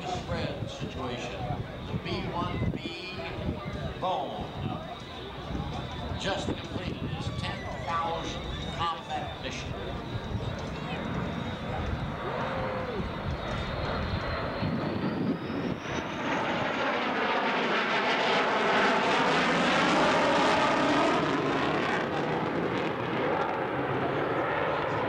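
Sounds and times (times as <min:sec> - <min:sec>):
jet engines flying by low: 0:00.0 - 0:25.0.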